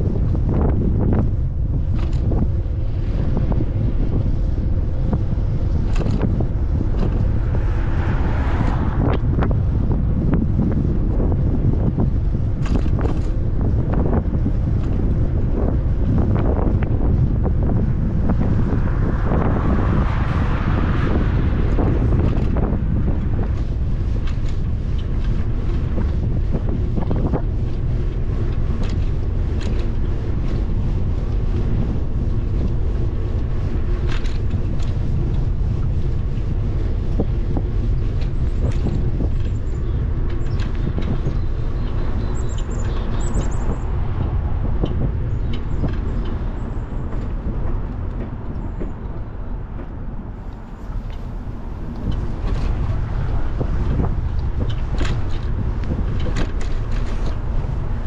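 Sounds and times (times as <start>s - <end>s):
bicycle knocks and rattles: 0.0s - 58.0s
low road rumble: 0.0s - 58.0s
wind buffeting microphone: 0.0s - 58.0s.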